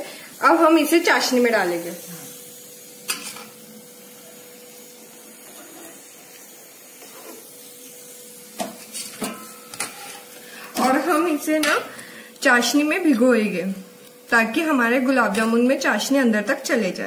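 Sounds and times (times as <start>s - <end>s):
sweets sizzling in hot ghee: 0.0s - 17.0s.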